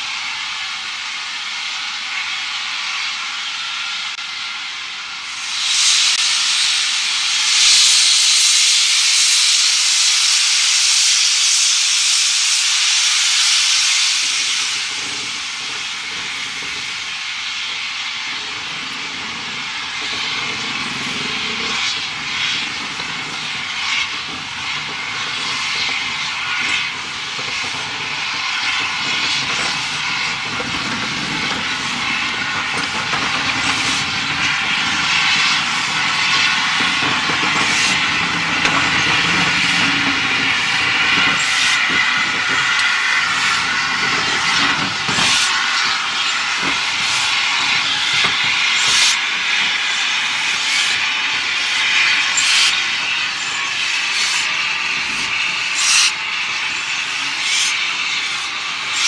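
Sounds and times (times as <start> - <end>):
steam hissing: 0.0 - 59.0
locomotive rumble and puffs: 11.6 - 59.0.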